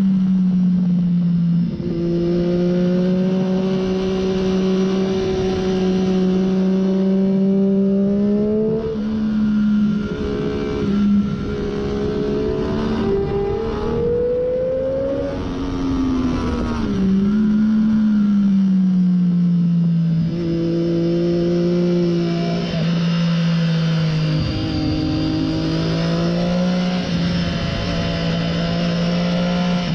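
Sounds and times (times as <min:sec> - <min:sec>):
wind noise: 0:00.0 - 0:18.4, 0:20.1 - 0:29.9
motorcycle engine at speed: 0:00.0 - 0:29.9.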